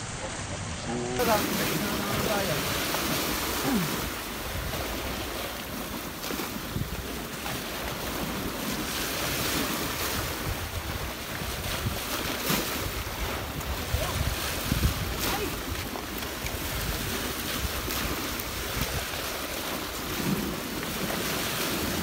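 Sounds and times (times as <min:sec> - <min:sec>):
waves breaking on rocky shore: 0:00.0 - 0:22.0
wind buffeting microphone: 0:01.2 - 0:22.0.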